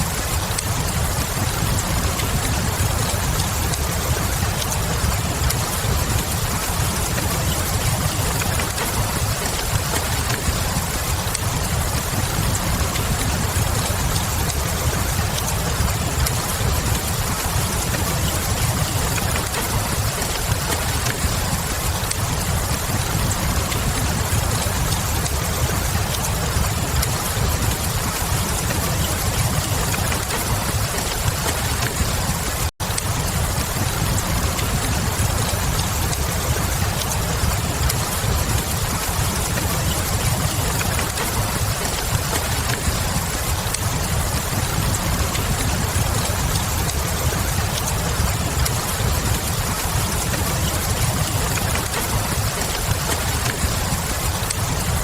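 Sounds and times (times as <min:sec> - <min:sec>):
log fire crackling: 0:00.0 - 0:55.0
steady rain: 0:00.0 - 0:55.0.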